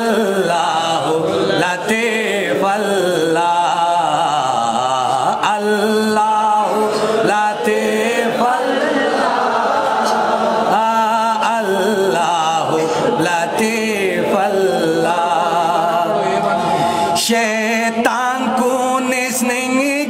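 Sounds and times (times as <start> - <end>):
man singing devotional chant: 0.0 - 20.0.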